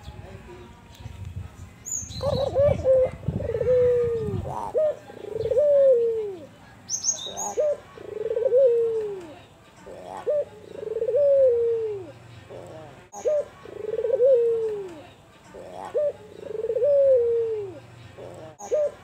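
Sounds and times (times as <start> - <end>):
dove cooing: 2.2 - 6.5, 7.3 - 19.0.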